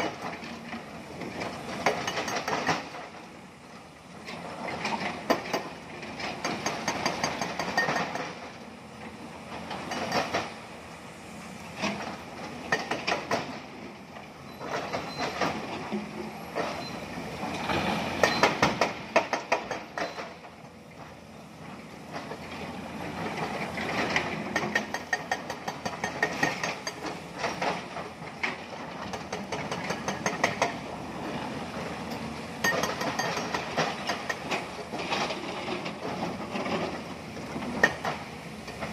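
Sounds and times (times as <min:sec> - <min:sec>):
diesel engines running under load: 0:00.0 - 0:38.9.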